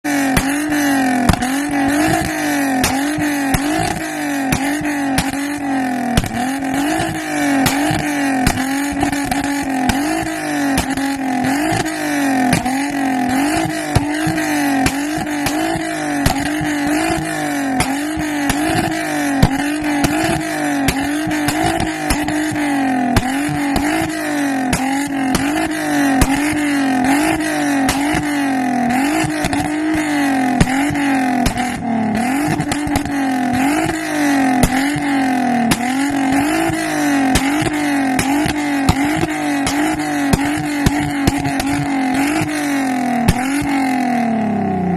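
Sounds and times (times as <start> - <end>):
car engine revving: 0.0 - 44.9
exhaust pops and bangs: 0.1 - 44.0.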